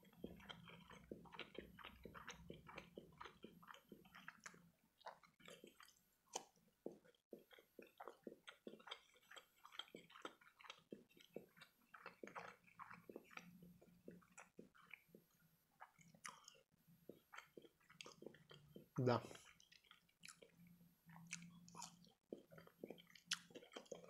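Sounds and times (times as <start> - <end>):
chewing with wet mouth clicks: 0.0 - 24.0.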